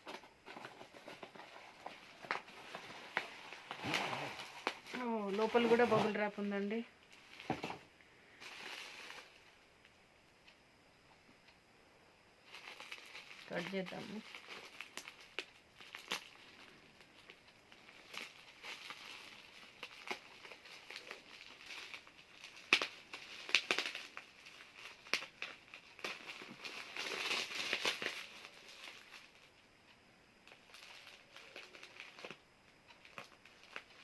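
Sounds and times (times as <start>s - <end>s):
bubble wrap crinkling and tearing: 0.0s - 7.8s, 8.4s - 9.5s, 12.4s - 29.6s, 30.4s - 34.0s.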